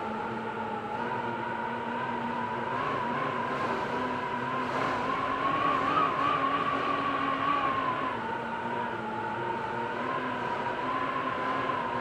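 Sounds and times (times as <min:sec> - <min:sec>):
gusty wind howling and whistling: 0:00.0 - 0:12.0.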